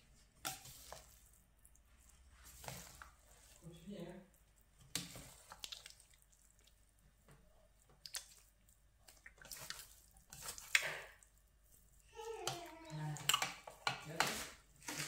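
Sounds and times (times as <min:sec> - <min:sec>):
spatula stirring rice in metal pot: 0:00.0 - 0:15.0.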